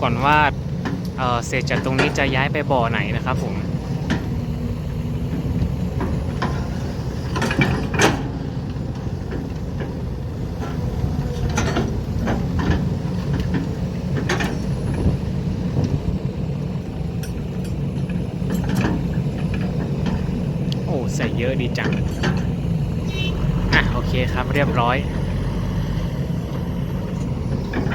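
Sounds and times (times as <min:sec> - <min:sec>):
excavator diesel engine running: 0:00.0 - 0:27.9
metallic clanks of excavator bucket: 0:00.1 - 0:04.6, 0:05.3 - 0:16.2, 0:17.1 - 0:25.3, 0:26.5 - 0:27.9.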